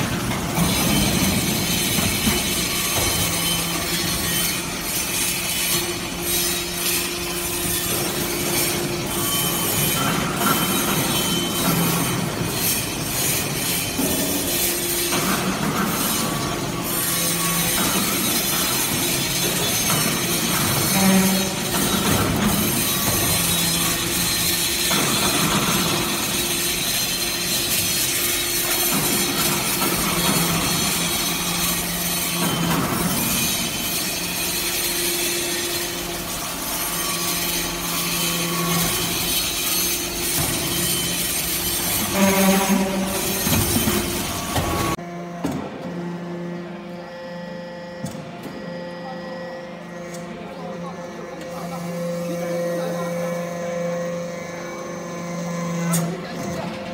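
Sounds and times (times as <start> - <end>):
dense mechanical noise: 0.0 - 56.9
hydraulic press machine noise: 0.0 - 56.9.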